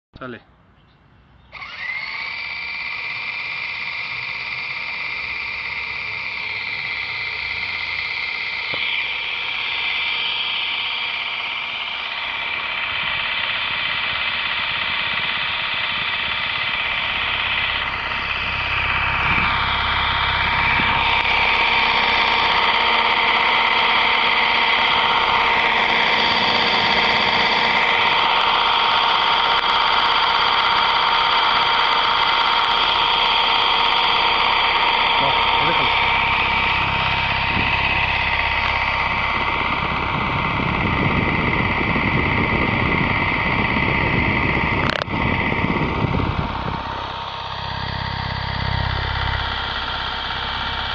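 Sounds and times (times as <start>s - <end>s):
model helicopter motor whine: 1.4s - 50.9s.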